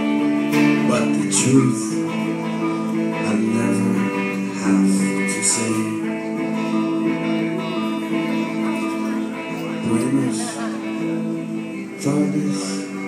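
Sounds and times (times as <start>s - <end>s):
electric guitar playing: 0.0s - 13.0s.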